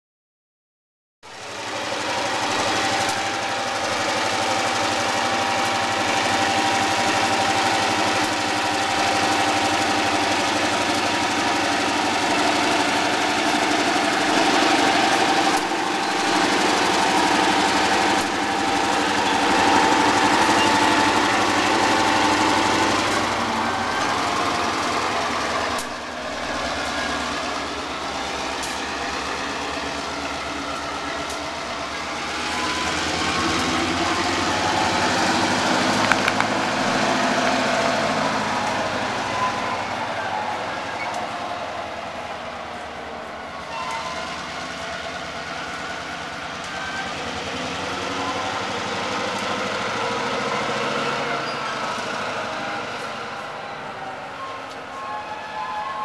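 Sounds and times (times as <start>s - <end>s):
diesel locomotive engine drone: 1.2s - 56.0s
locomotive whine: 1.2s - 56.0s.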